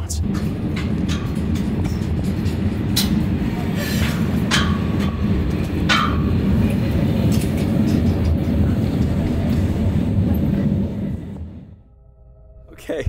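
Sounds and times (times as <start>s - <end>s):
train wagons rumbling on rails: 0.0s - 11.8s.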